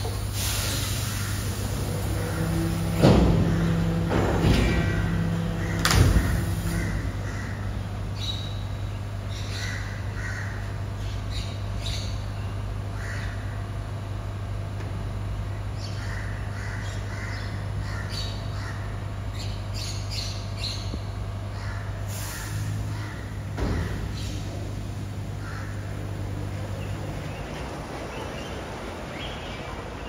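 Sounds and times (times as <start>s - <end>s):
truck low hum: 0.0s - 30.0s
birds calling: 0.8s - 13.8s, 15.4s - 30.0s.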